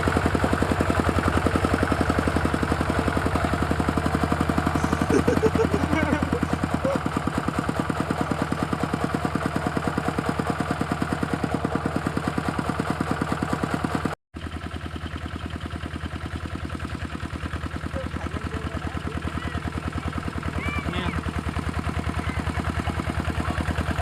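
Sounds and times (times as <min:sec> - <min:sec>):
diesel engine chugging: 0:00.0 - 0:24.0.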